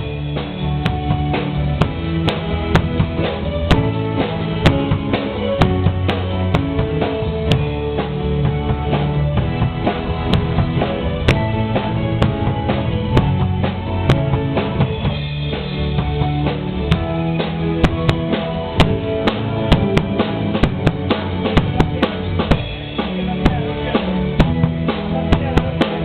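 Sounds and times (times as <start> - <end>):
bass line: 0.0 - 26.0
drum kit beat: 0.0 - 26.0
rock band playing: 0.0 - 26.0.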